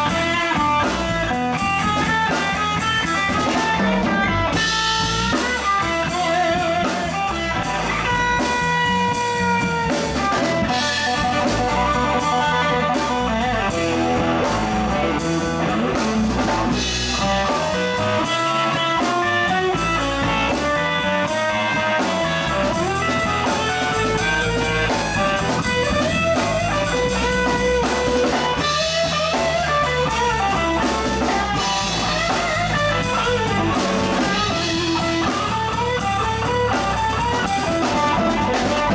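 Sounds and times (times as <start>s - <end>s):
bass guitar: 0.0s - 38.9s
drum kit steady beat: 0.0s - 38.9s
electric guitar melody: 0.0s - 38.9s.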